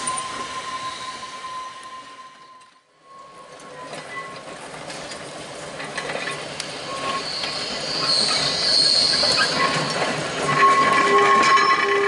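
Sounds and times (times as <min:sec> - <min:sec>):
high metallic wheel squeal: 0:00.0 - 0:04.6, 0:06.8 - 0:12.0
tram wheels clicking and grinding: 0:00.0 - 0:12.0.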